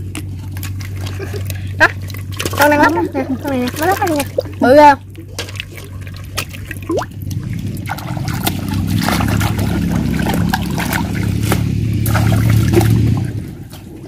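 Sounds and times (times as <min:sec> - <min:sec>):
muddy water sloshing and splashing: 0:00.0 - 0:14.0
steady low rumble: 0:00.0 - 0:14.0.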